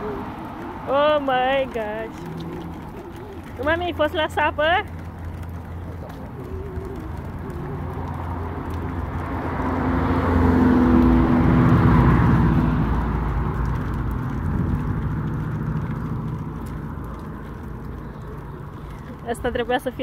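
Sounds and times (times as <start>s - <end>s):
motor vehicle passing by: 0.0s - 20.0s.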